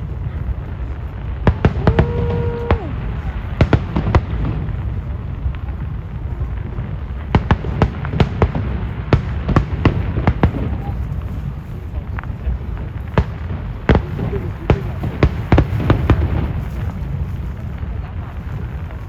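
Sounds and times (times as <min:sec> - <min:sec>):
low rumble of firework bursts: 0:00.0 - 0:19.0
sharp firework bangs and crackles: 0:00.0 - 0:19.0.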